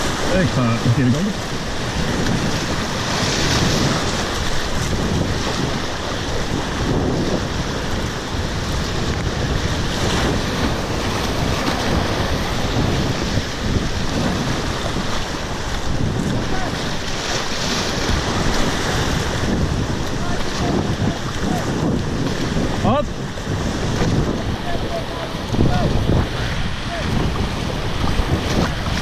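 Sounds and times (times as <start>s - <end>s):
rushing river water: 0.0s - 29.0s
wind buffeting microphone: 0.0s - 29.0s.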